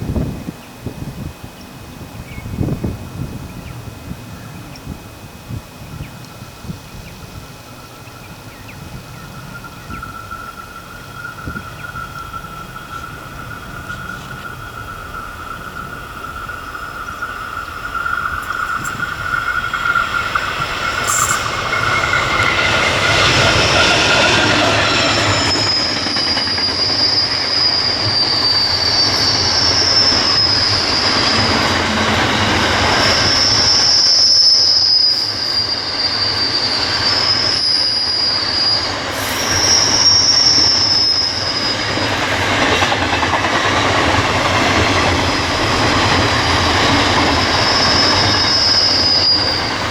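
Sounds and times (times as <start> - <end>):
freight train rumble and clatter: 0.0 - 49.9
wheels squealing: 7.9 - 49.9.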